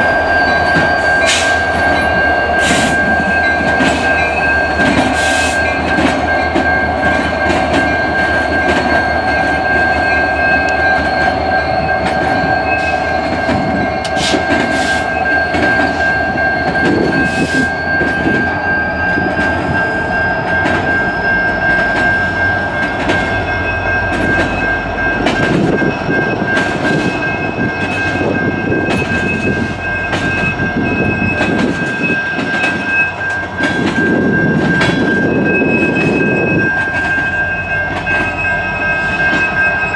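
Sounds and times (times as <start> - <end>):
steady high-pitched tone: 0.0 - 39.9
train wheels clicking over rail joints: 0.5 - 10.0, 10.7 - 23.5, 24.1 - 39.9.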